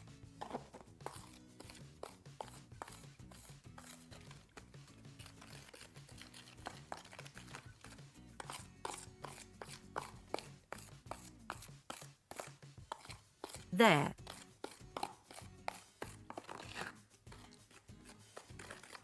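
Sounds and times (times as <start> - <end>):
quiet background music: 0.0 - 19.0
tool scraping adhesive paste: 0.4 - 4.4, 5.0 - 13.7, 14.3 - 19.0.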